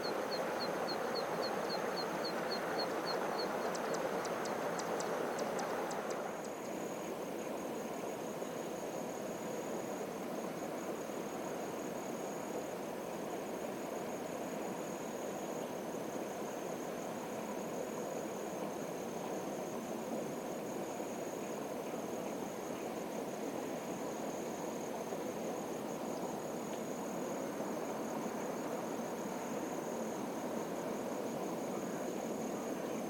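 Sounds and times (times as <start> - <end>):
high insect trill: 0.0 - 33.0
low rushing background noise: 0.0 - 33.0.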